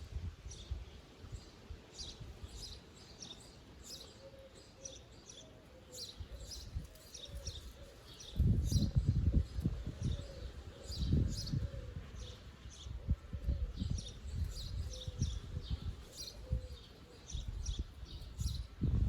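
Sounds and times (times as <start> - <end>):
wind gusts on microphone: 0.0 - 2.8, 6.2 - 19.0
songbirds singing and chirping: 0.0 - 19.0.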